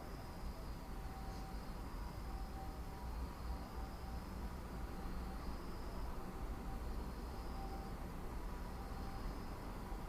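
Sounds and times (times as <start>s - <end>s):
insect trilling: 0.0s - 10.0s.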